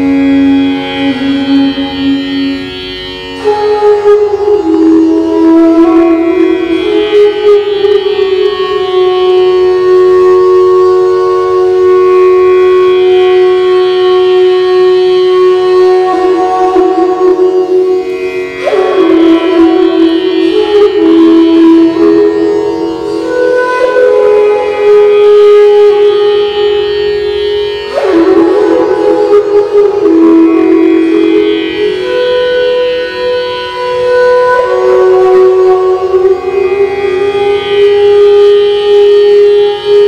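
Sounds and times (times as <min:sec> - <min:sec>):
bamboo flute playing: 0:00.0 - 0:40.0.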